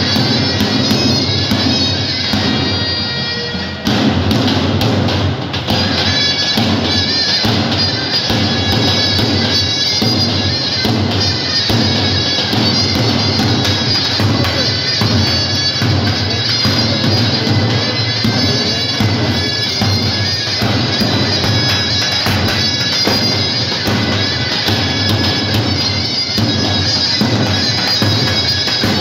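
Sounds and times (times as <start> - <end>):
shrill double-reed wind melody: 0.0 - 29.0.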